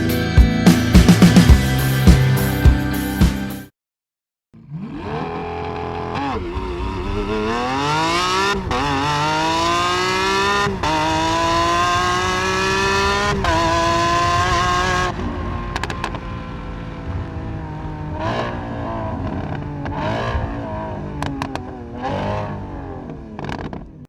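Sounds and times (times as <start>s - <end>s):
car engine accelerating through gears: 4.6s - 24.0s.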